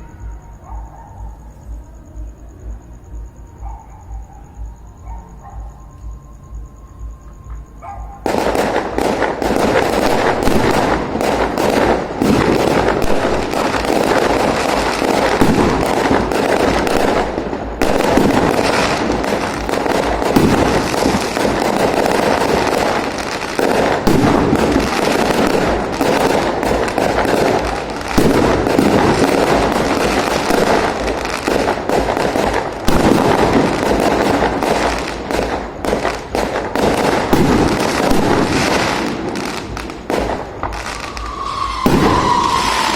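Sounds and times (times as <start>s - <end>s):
fireworks bangs and crackles: 8.2s - 42.9s.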